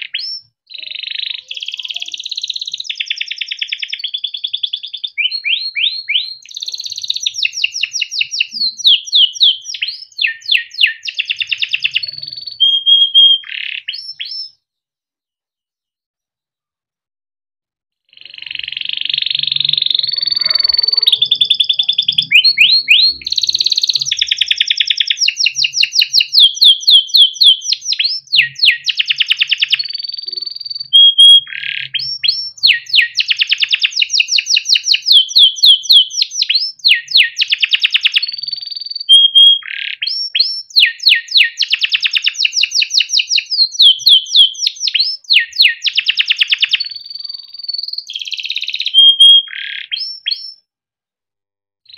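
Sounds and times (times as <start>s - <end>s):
canary singing trills: 0.0s - 14.6s, 18.1s - 50.6s.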